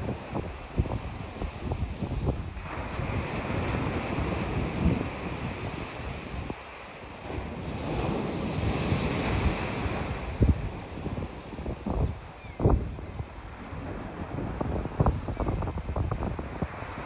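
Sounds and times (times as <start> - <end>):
waves washing on sandy beach: 0.0 - 17.0
wind buffeting microphone: 0.0 - 17.0.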